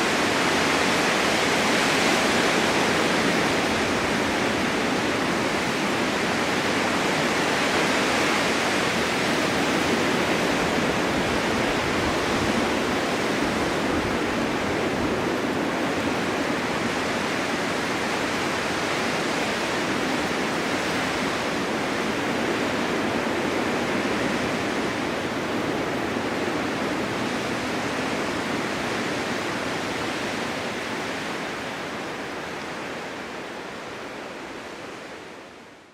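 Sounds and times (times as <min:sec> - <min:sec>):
blizzard wind rushing: 0:00.0 - 0:35.3.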